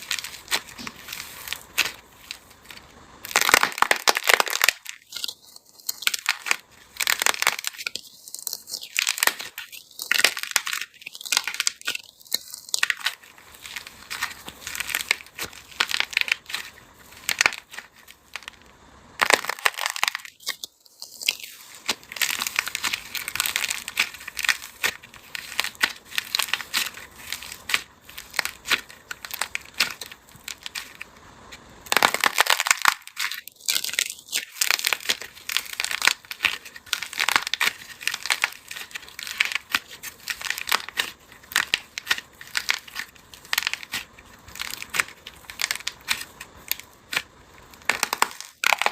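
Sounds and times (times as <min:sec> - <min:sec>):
brittle material crunching: 0:00.0 - 0:48.9.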